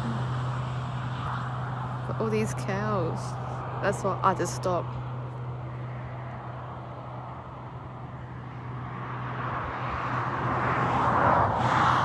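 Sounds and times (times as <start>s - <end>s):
steady low hum: 0.0s - 10.4s
vehicle tyre and road noise: 0.0s - 12.0s.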